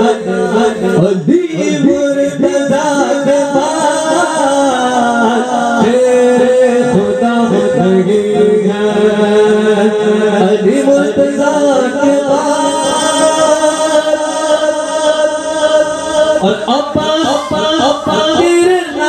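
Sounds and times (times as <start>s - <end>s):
man singing into a microphone: 0.0s - 19.0s.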